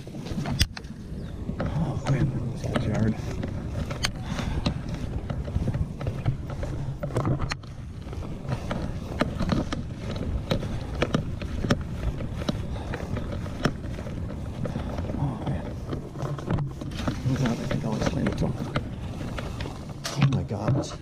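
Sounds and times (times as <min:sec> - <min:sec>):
clothing and gear rustling: 0:00.0 - 0:21.0
footsteps on grass: 0:00.0 - 0:21.0
wind rumble on microphone: 0:00.0 - 0:21.0.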